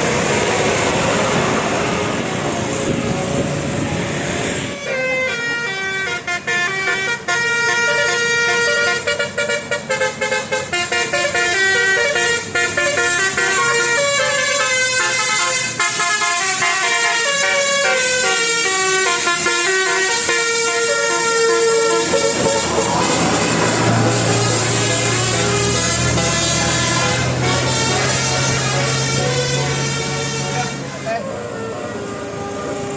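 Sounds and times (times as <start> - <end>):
multi-note bus air horn tune: 1.8 - 32.9.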